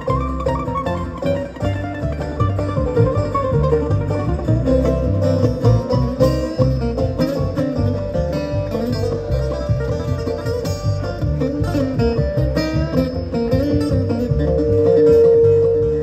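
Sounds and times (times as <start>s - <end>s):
bluegrass band playing: 0.0s - 16.0s.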